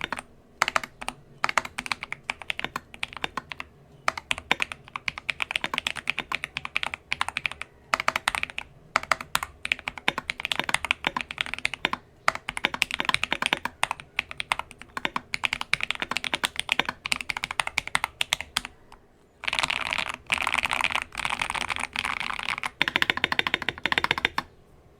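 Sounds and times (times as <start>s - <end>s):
mechanical keyboard typing: 0.0s - 18.8s, 19.4s - 24.5s.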